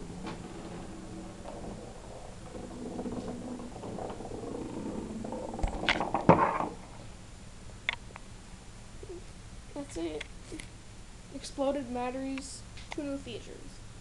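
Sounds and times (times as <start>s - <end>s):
faint low background sound: 0.0s - 14.0s.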